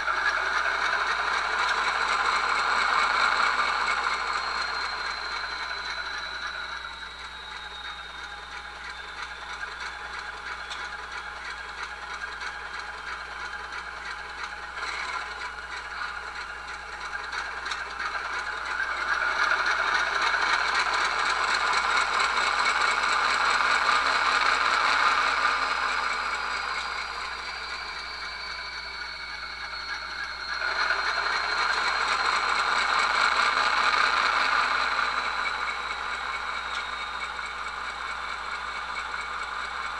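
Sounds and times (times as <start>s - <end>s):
diesel engine sound from small speaker: 0.0s - 39.9s
turbocharger whine: 0.0s - 39.9s.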